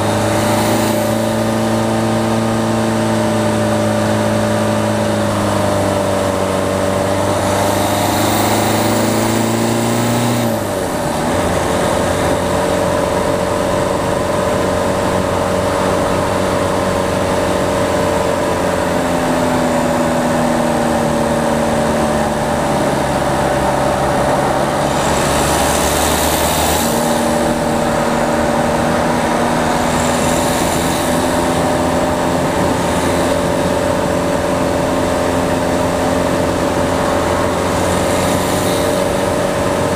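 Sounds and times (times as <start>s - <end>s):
diesel car engine running: 0.0s - 39.9s.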